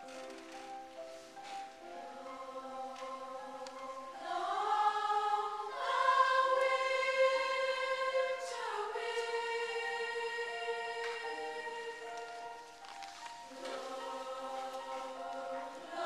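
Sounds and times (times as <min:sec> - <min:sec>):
choir singing sustained chords: 0:01.9 - 0:12.8, 0:13.4 - 0:16.0.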